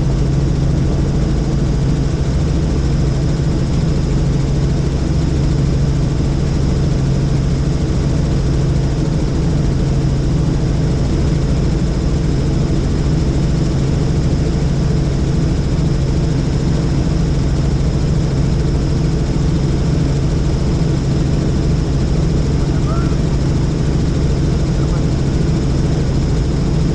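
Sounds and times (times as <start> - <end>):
helicopter drone: 0.0 - 26.9.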